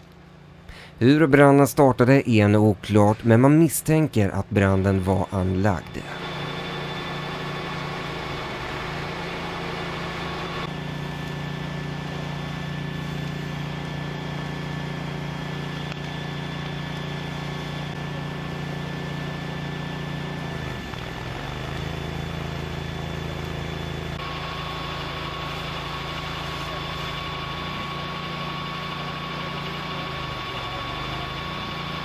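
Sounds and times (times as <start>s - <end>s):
diesel engine running: 4.0s - 32.0s.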